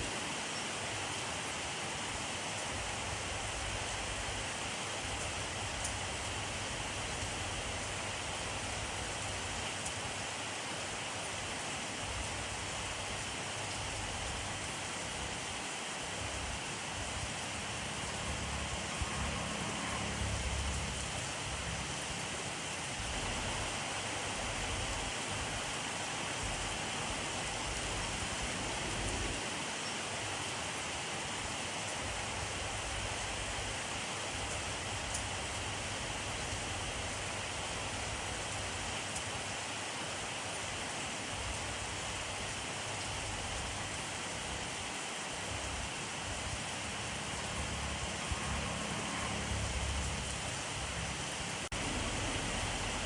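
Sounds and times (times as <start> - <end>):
heavy rain on surfaces: 0.0 - 53.0.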